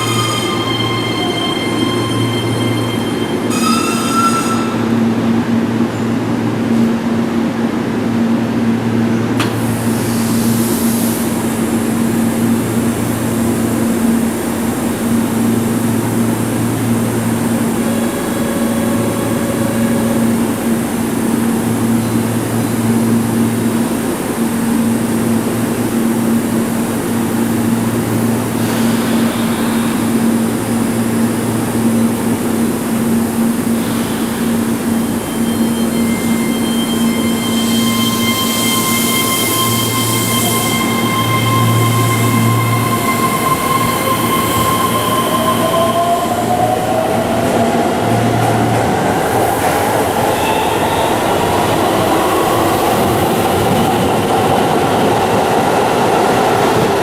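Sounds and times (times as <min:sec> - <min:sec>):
electric train humming: 0:00.0 - 0:57.0.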